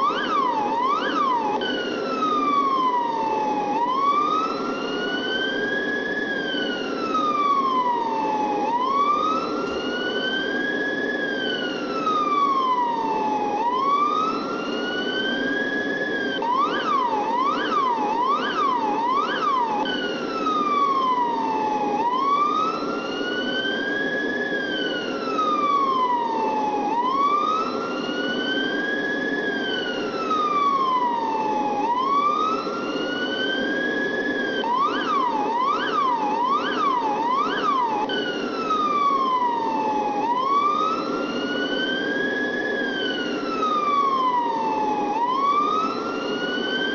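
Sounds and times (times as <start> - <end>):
police siren wailing and yelping: 0.0 - 46.9.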